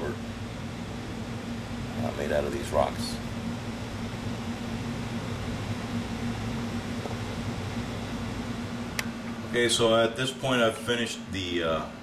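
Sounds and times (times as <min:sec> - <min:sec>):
fan-like room hum and hiss: 0:00.0 - 0:12.0.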